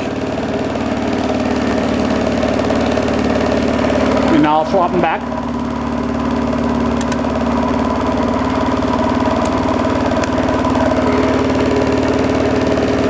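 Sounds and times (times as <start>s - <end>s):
pulse motor buzzing hum: 0.0s - 13.0s.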